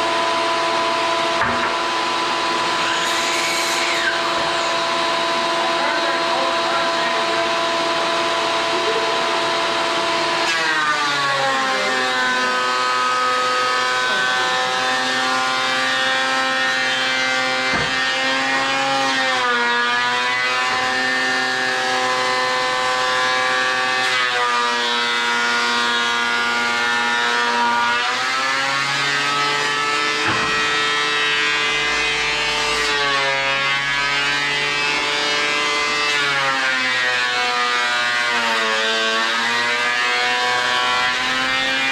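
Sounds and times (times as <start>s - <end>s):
vacuum cleaner motor whine: 0.0s - 41.9s.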